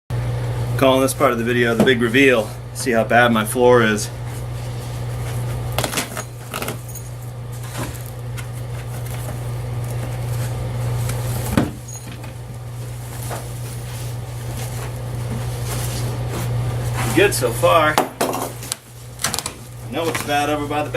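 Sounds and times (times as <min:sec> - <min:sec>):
steady low hum: 0:00.1 - 0:20.9.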